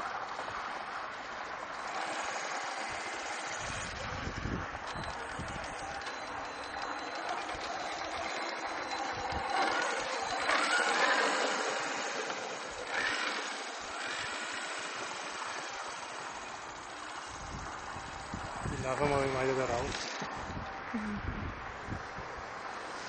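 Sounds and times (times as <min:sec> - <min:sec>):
rc car electric motor whir: 0:00.0 - 0:20.6.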